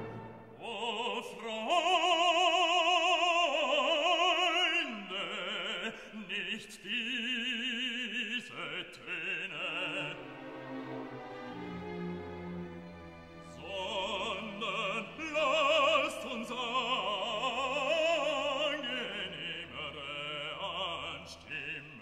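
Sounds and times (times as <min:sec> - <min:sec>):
operatic singing with vibrato: 0:00.0 - 0:22.0.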